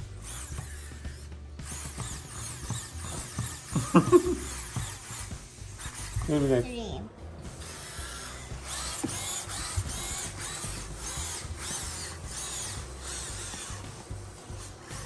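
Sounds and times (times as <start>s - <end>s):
robot motors whirring: 0.0s - 6.7s, 7.4s - 15.0s.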